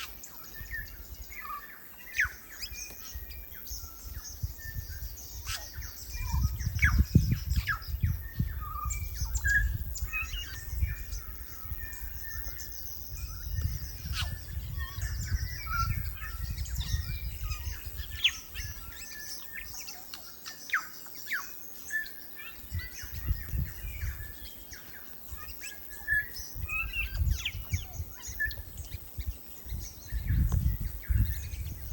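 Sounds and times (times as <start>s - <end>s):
bird singing whistles: 0.0s - 31.9s.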